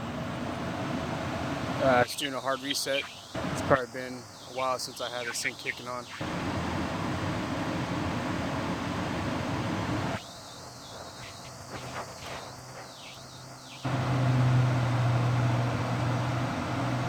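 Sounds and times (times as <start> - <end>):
furnace low hum: 0.0 - 17.0.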